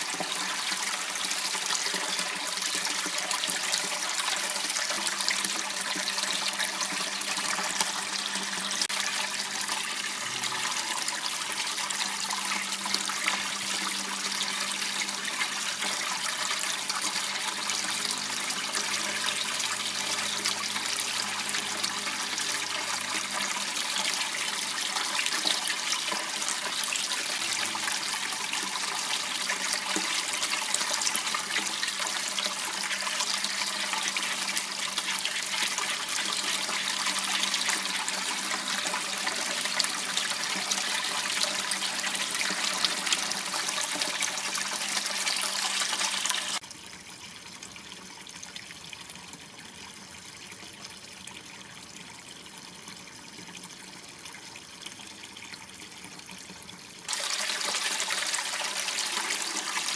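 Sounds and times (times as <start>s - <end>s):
water trickling in a stream: 0.0s - 59.9s.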